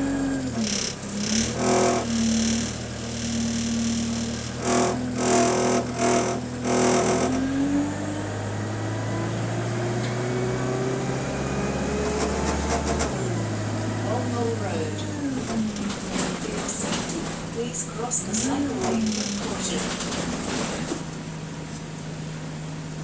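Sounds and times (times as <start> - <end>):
bus engine running: 0.0 - 23.0
rising whine of bus: 0.0 - 23.0.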